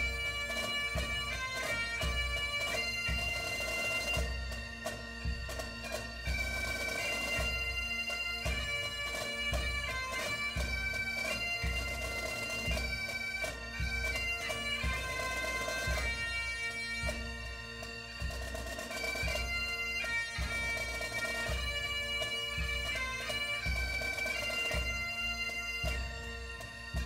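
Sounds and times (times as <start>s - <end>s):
bagpipe tune over drone: 0.0s - 27.0s.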